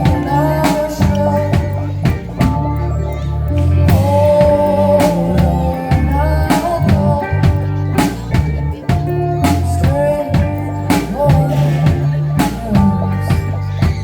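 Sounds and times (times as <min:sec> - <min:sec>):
bass line: 0:00.0 - 0:14.0
drum kit beat: 0:00.0 - 0:14.0
gliding melody line: 0:00.0 - 0:14.0.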